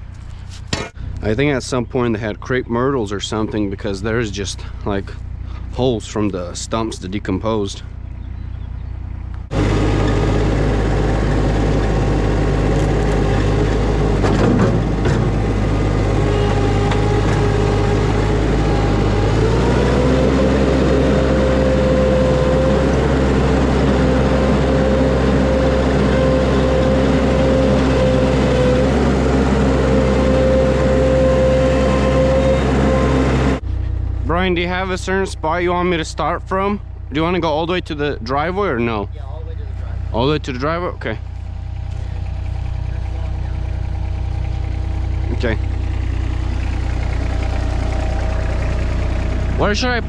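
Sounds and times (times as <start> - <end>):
skid steer engine running: 0.0 - 50.0
steady whine: 9.1 - 50.0.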